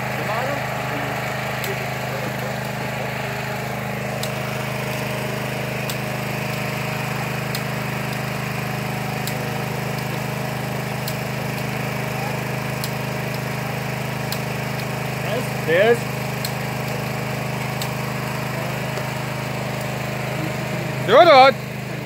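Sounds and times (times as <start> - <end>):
small engine humming: 0.0 - 22.0.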